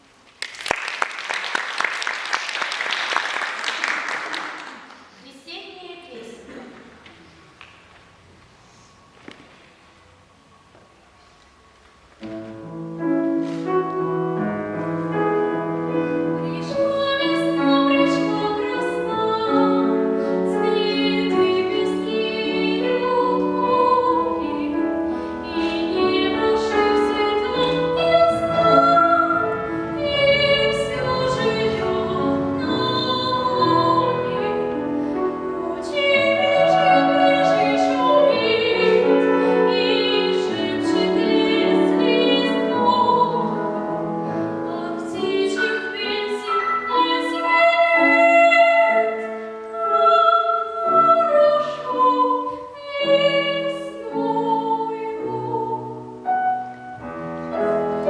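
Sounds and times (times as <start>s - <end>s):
piano accompaniment: 9.1s - 58.0s.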